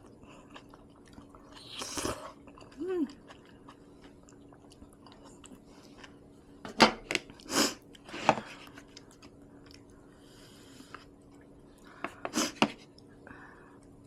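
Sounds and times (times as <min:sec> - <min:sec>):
soft chewing: 0:00.0 - 0:06.6, 0:07.2 - 0:14.0.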